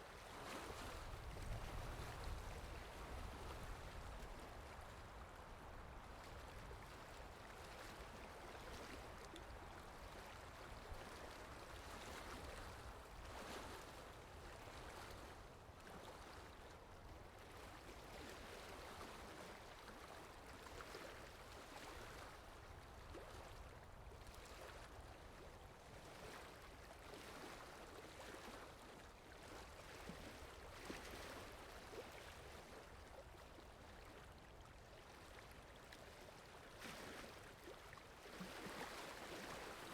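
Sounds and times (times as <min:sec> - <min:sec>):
wind: 0:00.0 - 0:39.9
small water splashes: 0:00.1 - 0:39.9
water lapping: 0:00.2 - 0:39.9.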